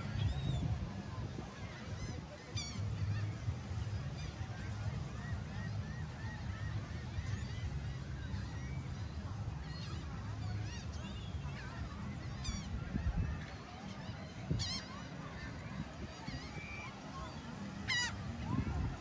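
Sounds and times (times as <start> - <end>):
birds calling: 1.6 - 19.0.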